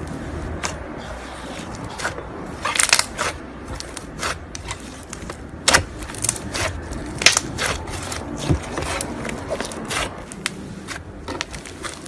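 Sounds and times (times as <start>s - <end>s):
slime crackling and popping: 0.6s - 12.0s.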